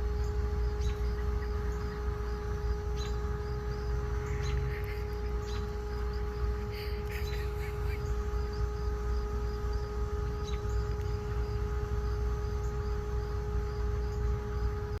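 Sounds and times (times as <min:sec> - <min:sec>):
cricket chirping: 0:00.0 - 0:15.0
steady hum: 0:00.0 - 0:15.0.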